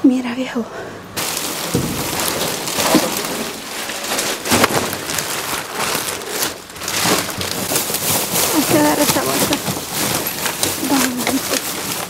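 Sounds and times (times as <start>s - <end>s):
plastic bag rustling: 1.2s - 12.0s.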